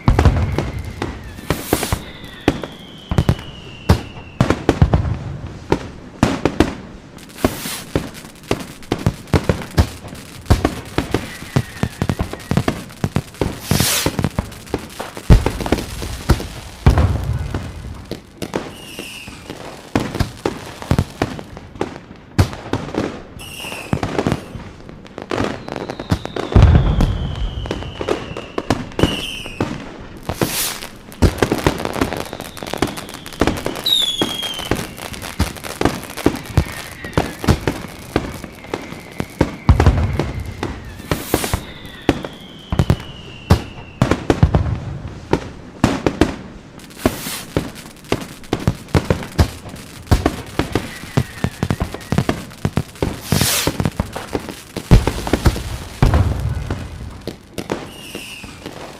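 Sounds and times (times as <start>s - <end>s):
deep firework booms: 0.0s - 23.2s, 23.8s - 46.4s, 47.0s - 58.9s
fireworks cracking and banging: 0.0s - 58.9s
whistling fireworks: 0.0s - 58.9s.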